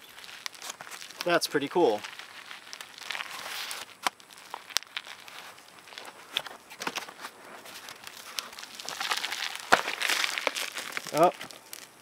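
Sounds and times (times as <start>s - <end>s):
paper layers ripping: 0.0s - 11.9s
cardboard rustling: 0.0s - 12.0s.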